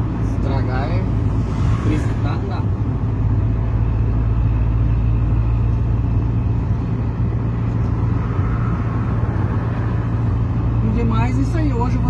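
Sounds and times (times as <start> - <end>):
diesel engine low drone: 0.0 - 12.0
road noise inside cab: 0.0 - 12.0.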